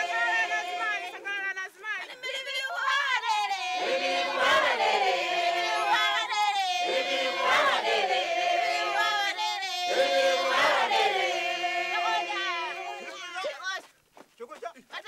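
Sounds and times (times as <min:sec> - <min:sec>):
group of voices singing: 0:00.0 - 0:01.3, 0:02.3 - 0:13.4.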